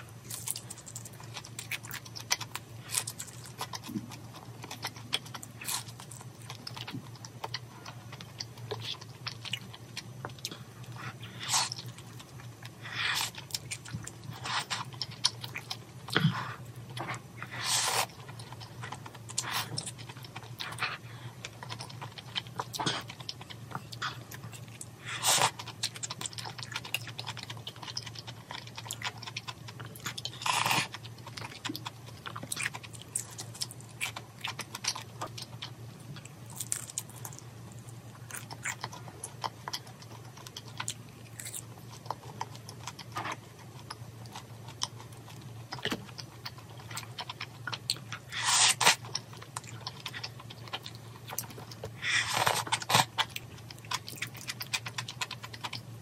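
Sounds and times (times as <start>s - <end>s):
faint low hum: 0.0s - 56.0s
person chewing food: 0.0s - 56.0s
crunching crispy food: 0.1s - 16.2s, 16.9s - 56.0s.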